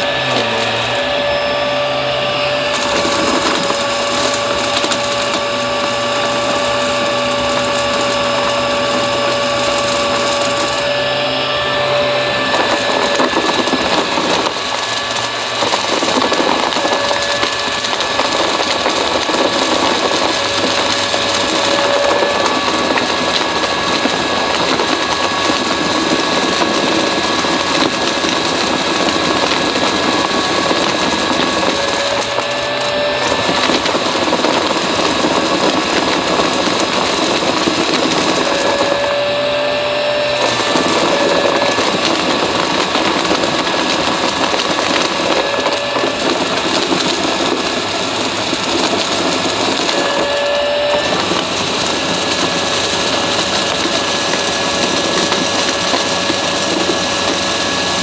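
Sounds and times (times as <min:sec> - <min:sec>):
debris crackling being sucked up: 0:00.0 - 0:58.0
vacuum cleaner motor whine: 0:00.0 - 0:58.0.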